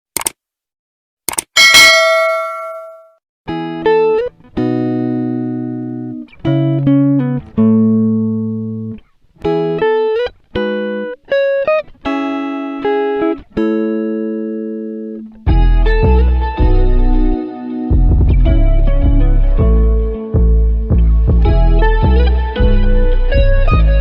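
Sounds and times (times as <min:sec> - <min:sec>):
plucked guitar music: 0:03.5 - 0:24.0.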